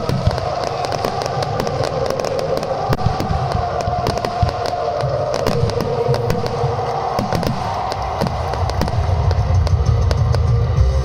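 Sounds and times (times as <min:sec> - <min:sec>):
deep rumble: 0:00.0 - 0:11.0
firework shells bursting and crackling: 0:00.0 - 0:11.0.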